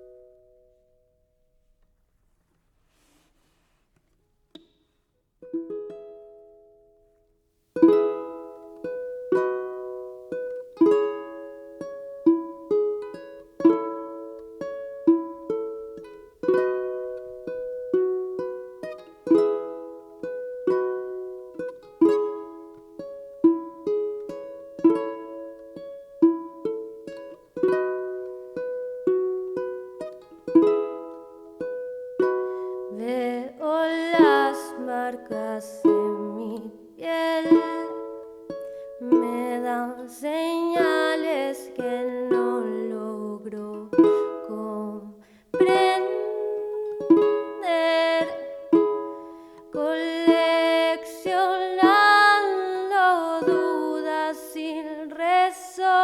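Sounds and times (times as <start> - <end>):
ukulele plucked chords: 0.0 - 1.1, 5.4 - 56.0.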